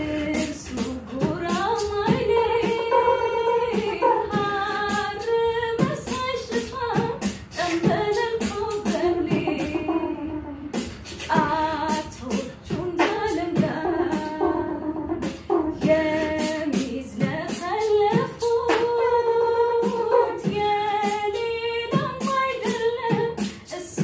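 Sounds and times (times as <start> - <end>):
beatboxing: 0.0 - 24.0
woman singing: 0.0 - 24.0.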